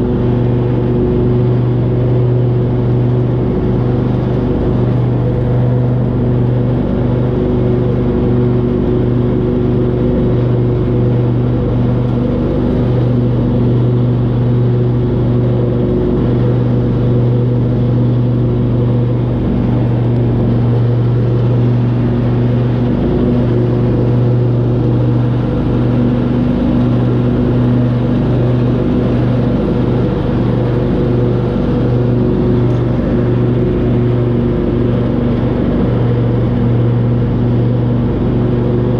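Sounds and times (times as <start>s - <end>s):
riding lawn mower engine: 0.0s - 38.9s.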